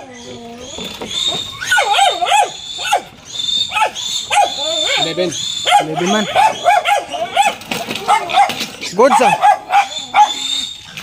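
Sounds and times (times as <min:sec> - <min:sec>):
piglets squealing: 0:00.0 - 0:11.0.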